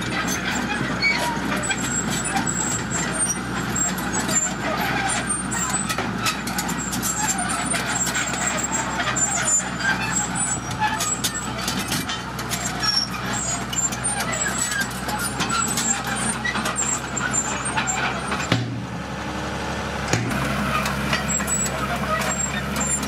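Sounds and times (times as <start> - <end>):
bulldozer engine: 0.0 - 23.0
truck diesel engine running: 0.0 - 23.0.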